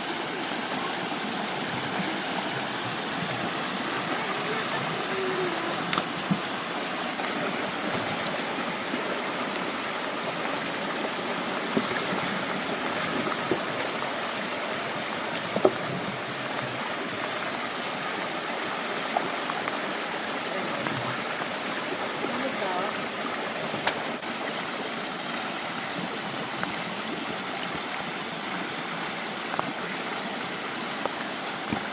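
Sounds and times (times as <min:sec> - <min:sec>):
stream water rushing: 0:00.0 - 0:31.9.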